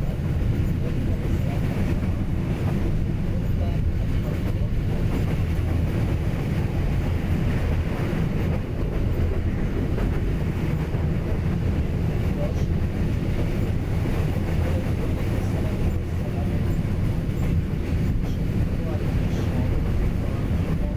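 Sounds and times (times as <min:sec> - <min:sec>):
train rumbling on rails: 0:00.0 - 0:20.9.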